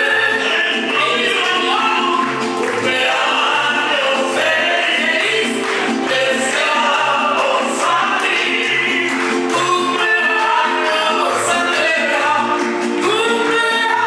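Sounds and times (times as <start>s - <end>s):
guitars playing: 0.0s - 14.0s
person singing: 0.0s - 14.0s.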